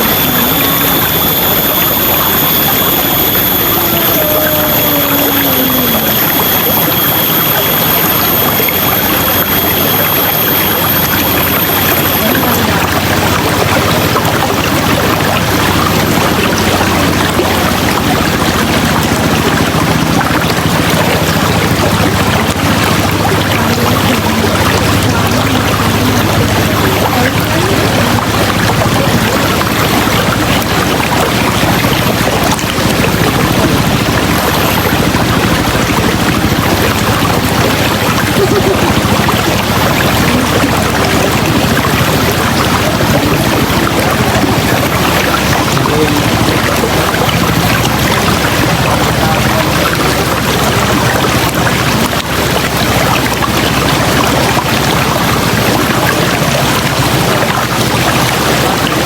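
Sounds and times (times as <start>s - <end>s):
river water rushing and splashing: 0.0s - 59.0s.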